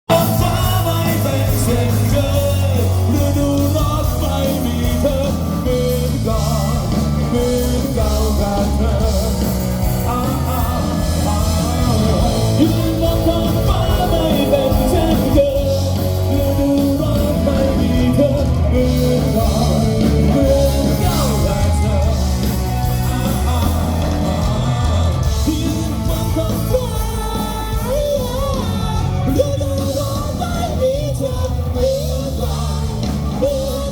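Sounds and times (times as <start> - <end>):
rock band playing: 0.0 - 33.9
lead singer singing: 0.1 - 33.9.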